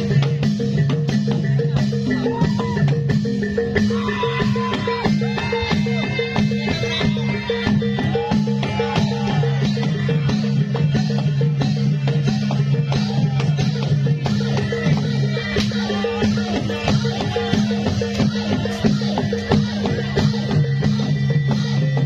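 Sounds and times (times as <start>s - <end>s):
drums: 0.0s - 22.0s.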